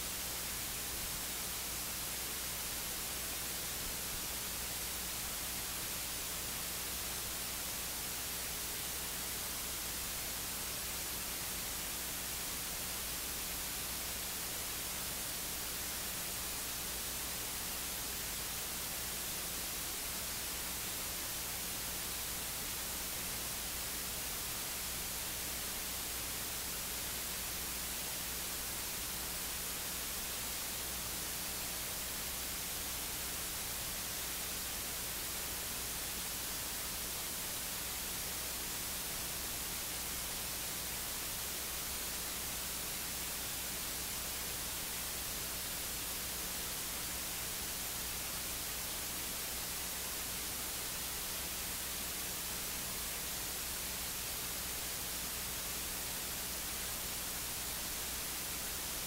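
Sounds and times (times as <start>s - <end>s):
electronic hiss: 0.0s - 59.0s.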